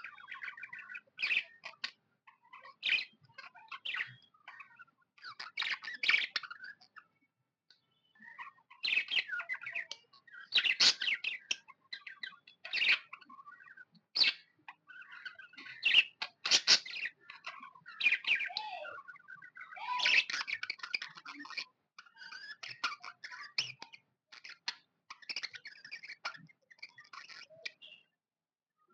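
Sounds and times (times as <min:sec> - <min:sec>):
budgies chirping and warbling: 0:00.0 - 0:28.2.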